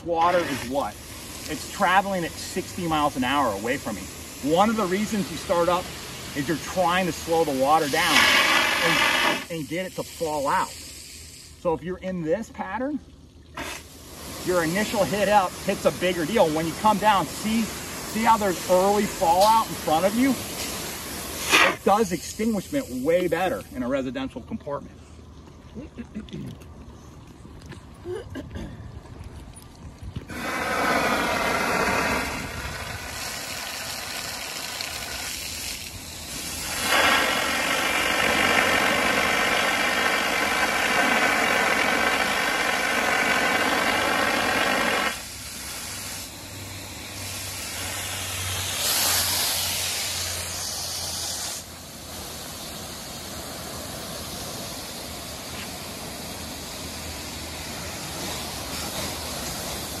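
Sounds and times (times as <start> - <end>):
fire hose water spraying: 0.0 - 24.4, 30.2 - 60.0.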